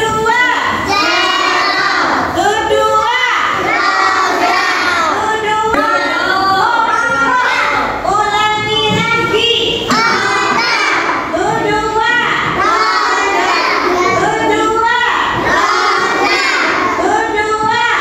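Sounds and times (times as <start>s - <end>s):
children singing together: 0.0s - 18.0s.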